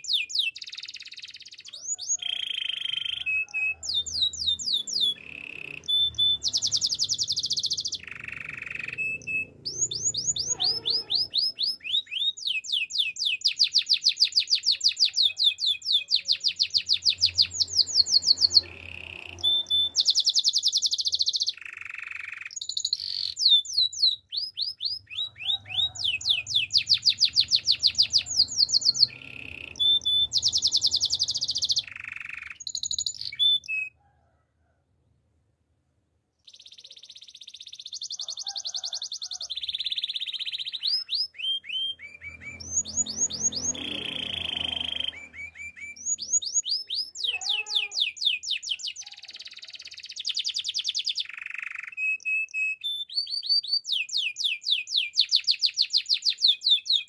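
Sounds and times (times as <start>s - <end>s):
canary singing: 0.0s - 34.0s, 36.4s - 57.0s.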